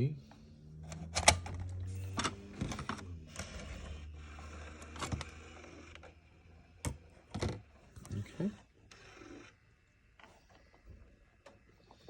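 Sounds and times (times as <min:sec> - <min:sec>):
tape mechanism motor hum: 0:00.0 - 0:12.0.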